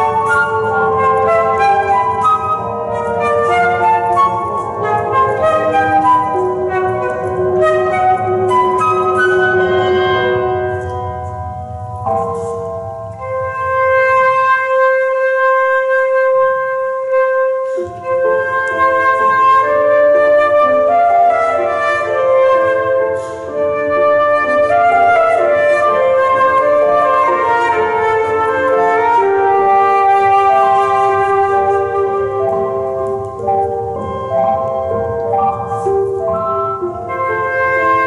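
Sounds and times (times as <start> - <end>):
flute melody: 0.0 - 38.0
piano accompaniment: 0.0 - 38.0.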